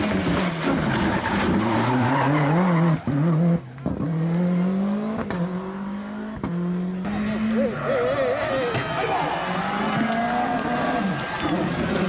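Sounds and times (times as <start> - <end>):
tyres skidding and squealing: 0.0 - 5.3, 6.1 - 12.0
car engine revving hard: 0.0 - 12.0.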